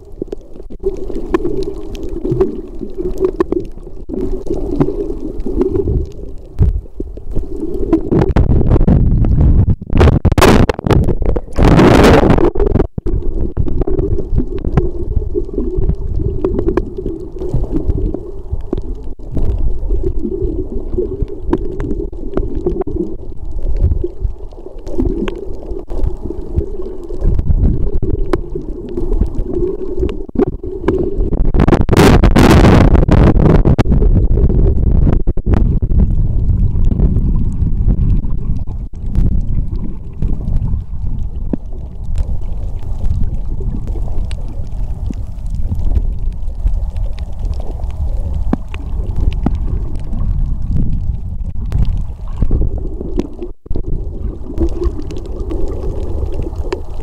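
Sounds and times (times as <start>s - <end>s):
underwater water rumble and gurgle: 0.0s - 57.0s.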